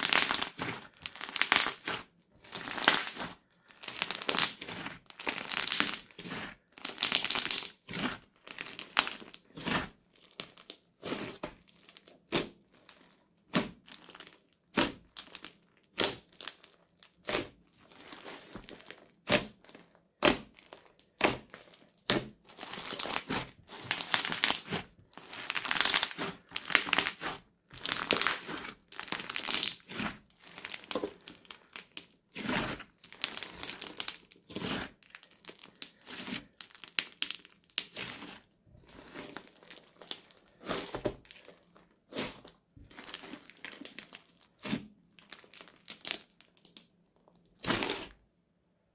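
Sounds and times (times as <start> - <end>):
crunchy slime crackling and popping: 0.0 - 48.2.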